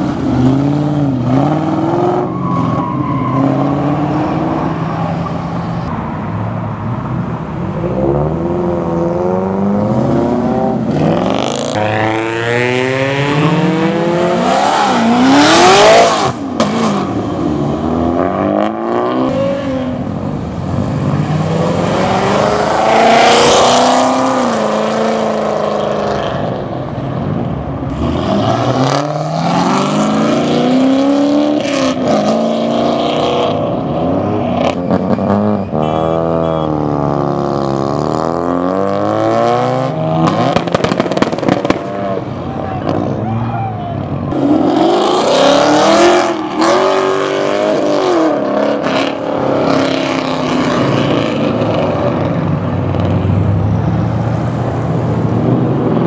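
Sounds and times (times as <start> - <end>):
cars accelerating hard: 0.0 - 6.0, 6.8 - 56.0.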